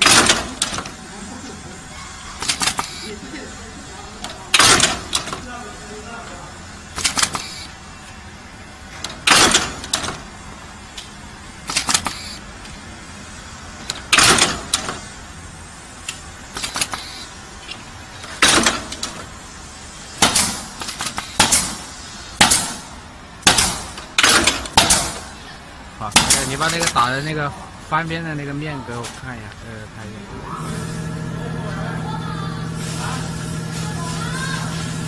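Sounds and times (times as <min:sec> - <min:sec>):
machine hum: 0:00.0 - 0:35.0.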